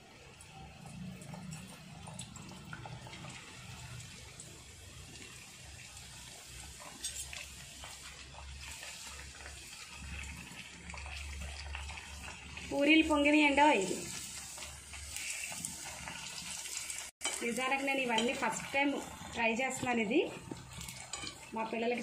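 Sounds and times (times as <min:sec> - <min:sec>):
dough frying in hot oil: 0:00.0 - 0:22.0.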